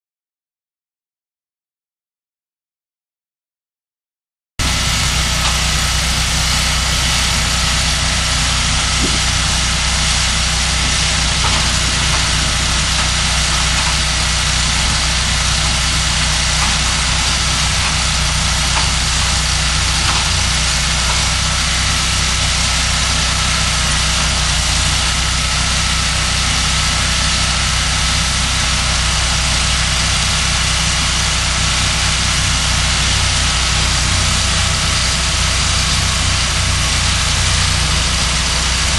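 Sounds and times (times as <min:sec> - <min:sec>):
sawmill engine droning: 0:04.6 - 0:38.9.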